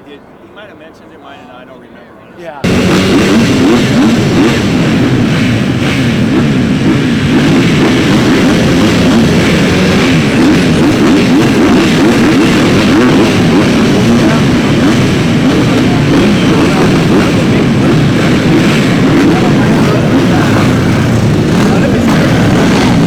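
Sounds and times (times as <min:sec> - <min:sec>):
dirt bike engines revving: 0:02.6 - 0:23.0.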